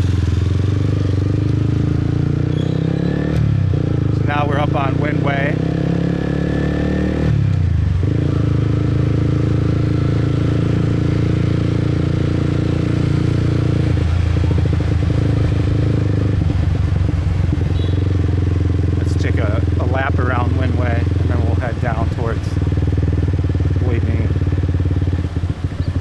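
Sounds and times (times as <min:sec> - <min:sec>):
motorbike engine running: 0:00.0 - 0:26.0.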